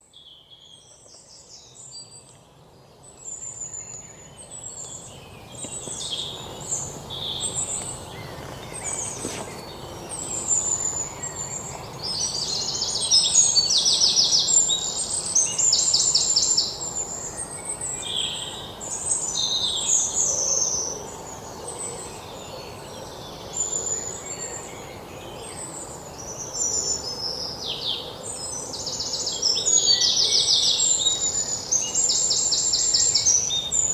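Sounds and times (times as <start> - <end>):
birds chirping and trilling: 0.0 - 33.9
outdoor background hiss: 0.0 - 33.9.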